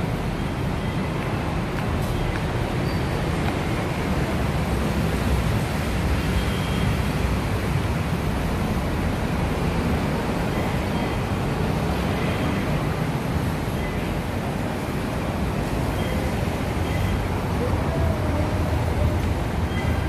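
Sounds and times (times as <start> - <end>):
rumble of busy station concourse: 0.0 - 20.0.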